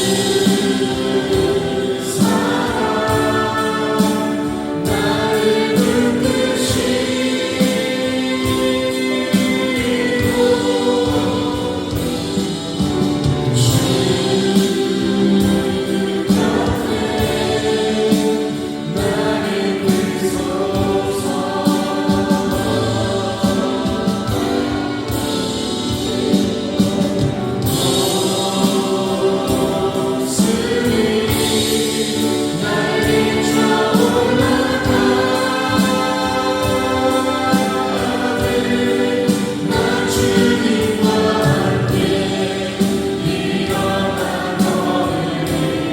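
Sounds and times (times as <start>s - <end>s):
accompaniment with steady beat: 0.0s - 45.9s
choir singing: 0.0s - 45.9s.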